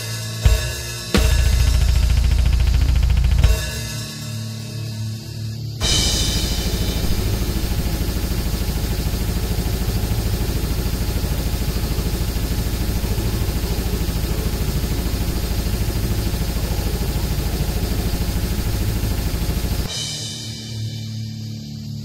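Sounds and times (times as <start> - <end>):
rapid double-bass kick drum: 0.0 - 5.0, 5.8 - 21.0
death metal music: 0.0 - 22.0.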